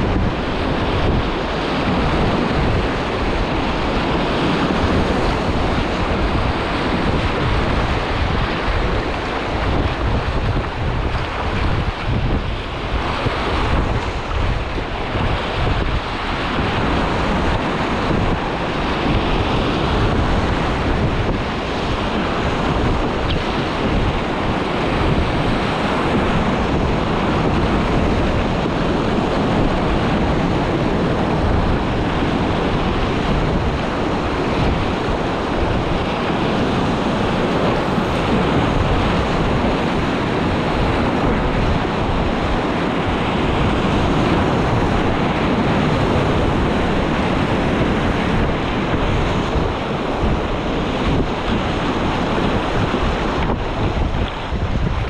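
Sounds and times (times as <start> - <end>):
river whitewater splashing: 0.0 - 55.0
wind rumbling on microphone: 0.0 - 55.0.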